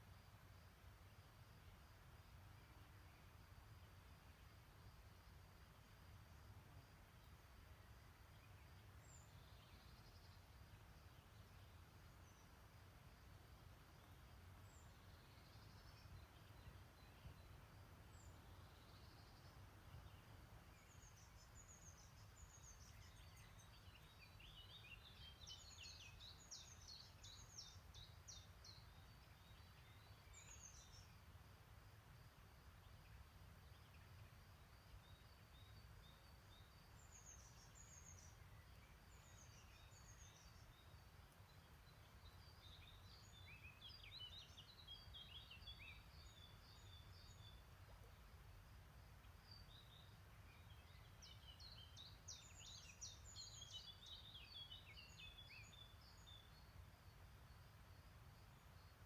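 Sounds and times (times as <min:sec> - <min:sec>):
faint songbirds chirping: 0:00.0 - 0:59.0.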